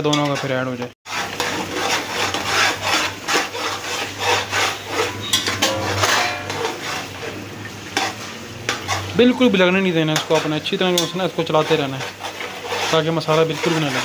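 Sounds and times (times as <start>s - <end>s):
metal spoon scraping cooking pot: 0.0s - 14.0s.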